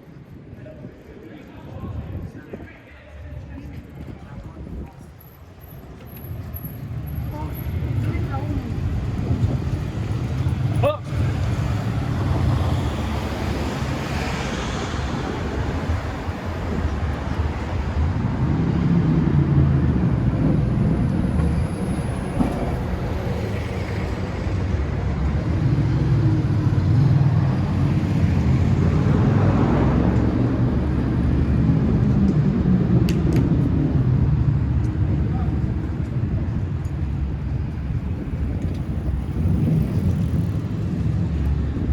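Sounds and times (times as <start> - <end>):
road traffic rumble: 0.0 - 41.9
vehicles passing: 0.0 - 41.9.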